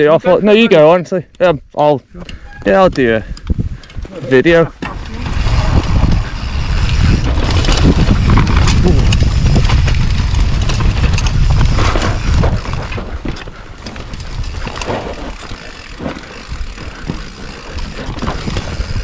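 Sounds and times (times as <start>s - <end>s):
bike clicks and rattles: 2.2s - 19.0s
wind rumbling on microphone: 2.2s - 19.0s
bike tyre noise on dirt: 2.4s - 19.0s.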